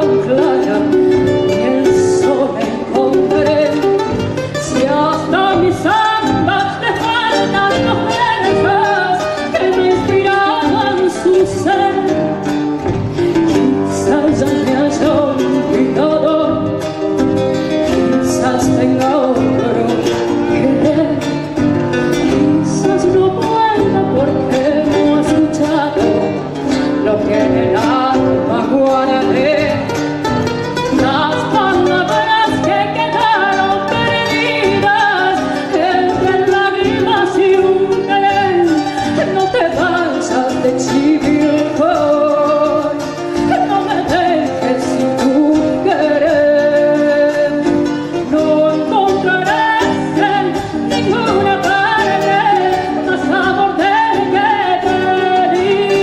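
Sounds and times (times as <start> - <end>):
folk music with acoustic guitars: 0.0 - 56.0.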